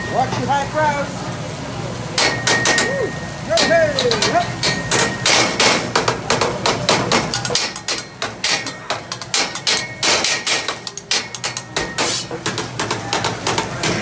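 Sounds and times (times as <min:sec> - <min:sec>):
spatula and fork clacking on griddle: 0:02.2 - 0:14.0.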